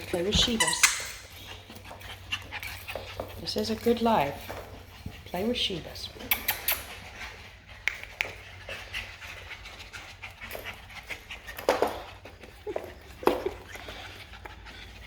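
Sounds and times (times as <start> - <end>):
puppies panting: 0.0 - 15.0
puppies scuffling: 0.0 - 15.0.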